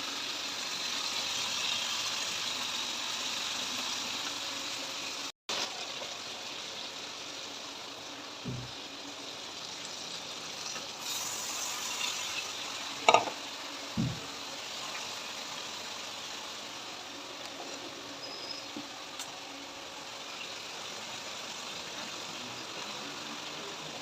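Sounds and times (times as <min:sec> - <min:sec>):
food frying sizzle: 0:00.0 - 0:24.0.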